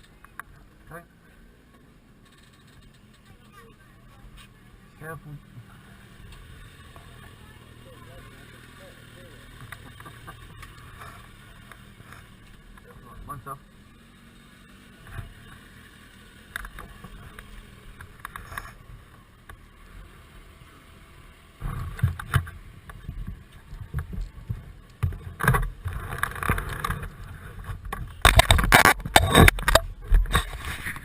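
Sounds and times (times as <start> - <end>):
motorcycle road noise: 0.0 - 31.0.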